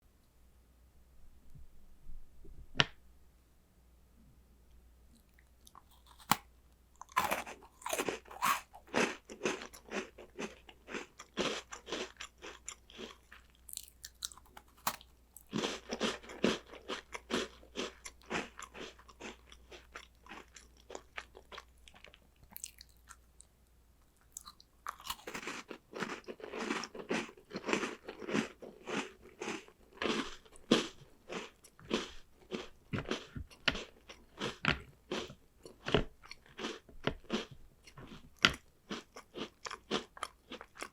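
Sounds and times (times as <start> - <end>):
crunching and chewing snacks: 5.2 - 23.5, 24.1 - 40.9.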